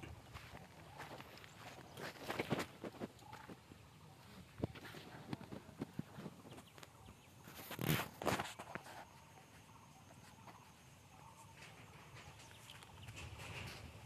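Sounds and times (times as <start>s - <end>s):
footsteps through undergrowth: 0.0s - 13.7s.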